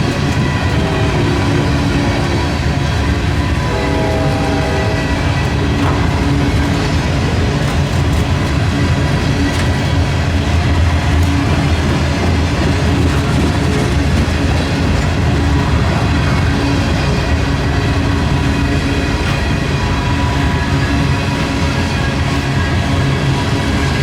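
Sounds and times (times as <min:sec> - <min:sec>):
train running by: 0:00.0 - 0:24.0.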